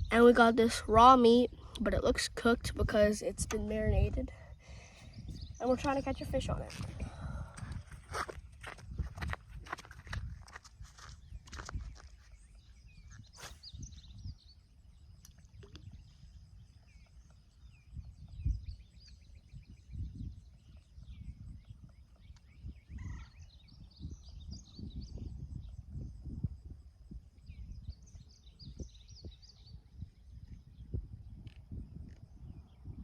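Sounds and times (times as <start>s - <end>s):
small birds chirping: 0.0s - 9.0s, 10.8s - 33.0s
low wind rumble: 0.0s - 33.0s.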